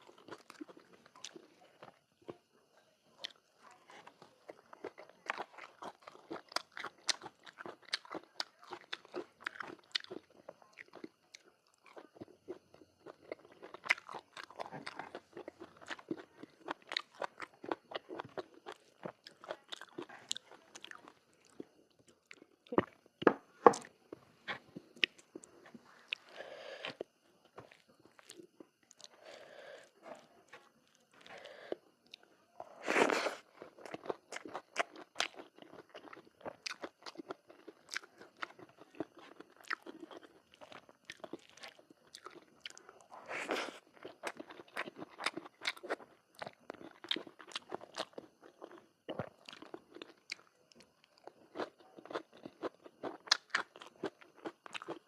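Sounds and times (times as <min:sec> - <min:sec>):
person chewing crunchy food: 0:00.0 - 0:02.4, 0:03.1 - 0:55.0.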